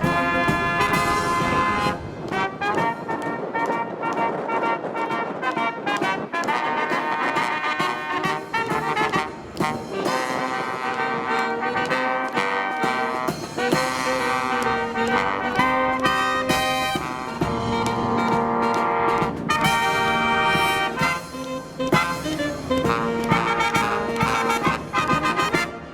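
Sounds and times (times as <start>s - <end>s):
brass marching band playing: 0.0s - 25.9s.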